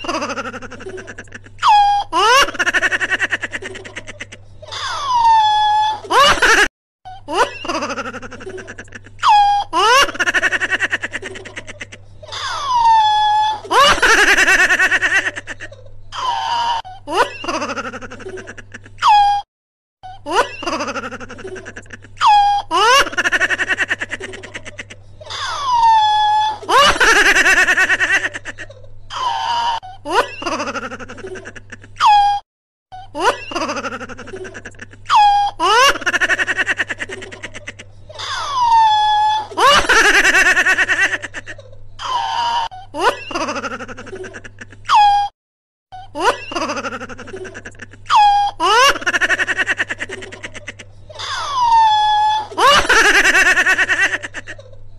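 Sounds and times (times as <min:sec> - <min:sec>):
woman laughing: 0:00.0 - 0:19.4, 0:20.2 - 0:32.4, 0:33.0 - 0:45.3, 0:46.1 - 0:54.8
high-pitched giggling: 0:00.0 - 0:45.3, 0:46.0 - 0:54.9.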